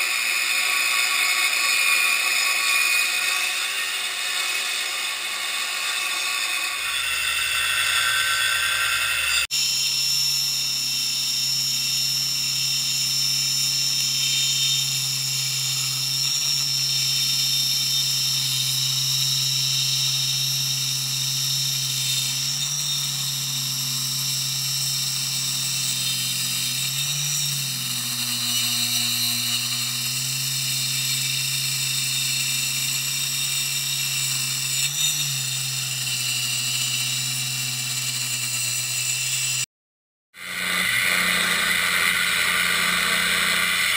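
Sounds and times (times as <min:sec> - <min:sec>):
circular saw ripping a board: 0:00.0 - 0:09.6, 0:12.5 - 0:39.7, 0:40.4 - 0:43.9.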